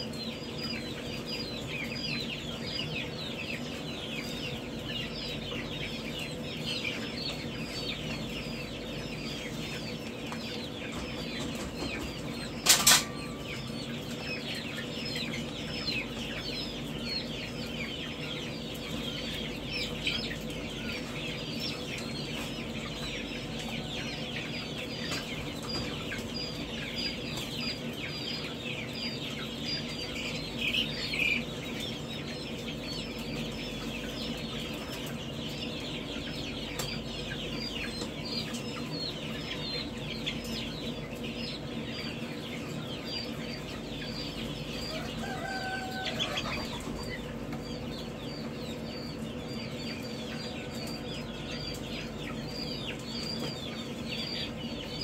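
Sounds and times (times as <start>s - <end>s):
baby chicks peeping: 0.0s - 55.0s.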